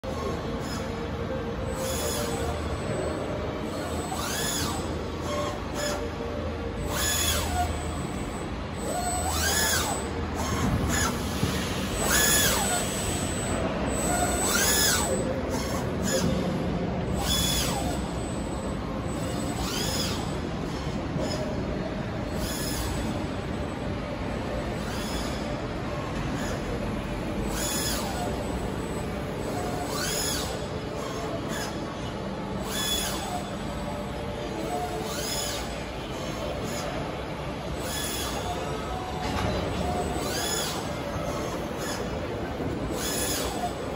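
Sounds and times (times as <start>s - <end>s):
servo motor whine: 0.0s - 21.6s, 22.2s - 37.0s, 37.6s - 43.9s
steady machine hum: 0.0s - 43.9s.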